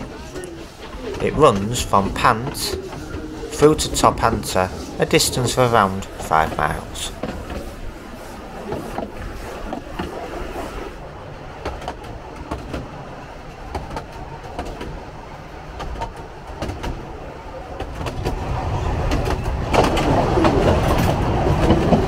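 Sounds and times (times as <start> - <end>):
train carriages rumbling: 0.0 - 22.0
wheels clicking over rails: 0.0 - 22.0.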